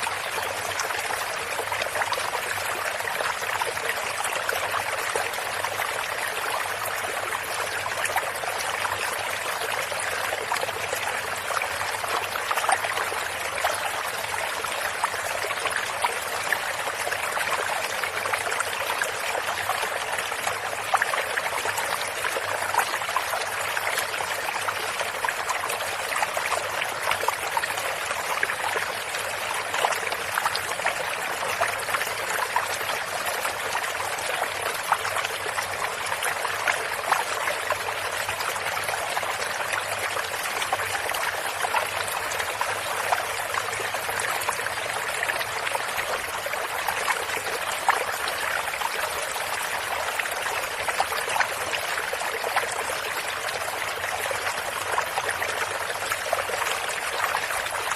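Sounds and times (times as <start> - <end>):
stream trickling and splashing: 0.0 - 57.9.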